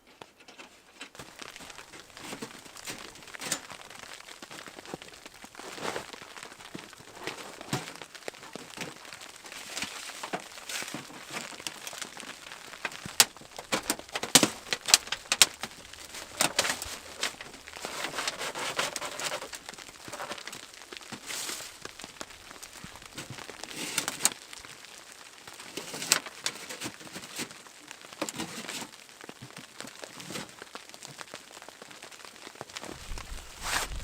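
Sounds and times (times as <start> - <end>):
gear rustling and crinkling: 0.1 - 31.3, 32.5 - 34.0.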